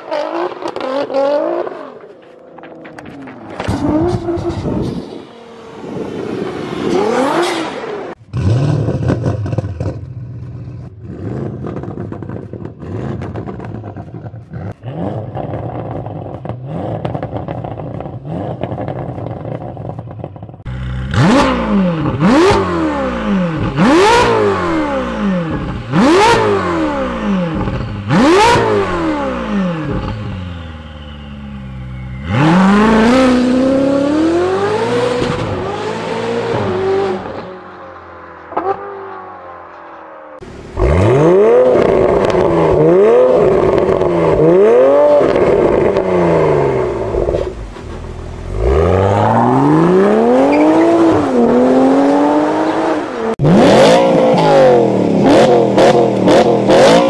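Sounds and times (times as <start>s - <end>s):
car driving on snowy road: 0.0s - 57.0s
car engine pulling away: 0.0s - 57.0s
car engine revving: 0.0s - 57.0s.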